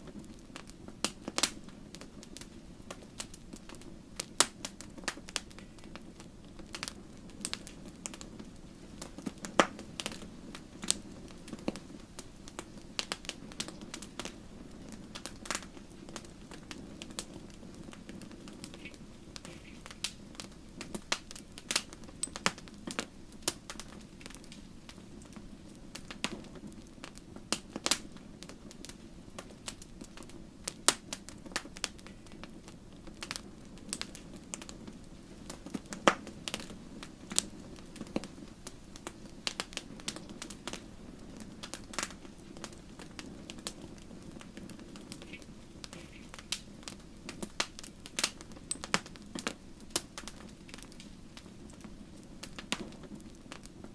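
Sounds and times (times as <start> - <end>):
fire crackling and popping: 0.0 - 53.9
low rush of flames: 0.0 - 53.9.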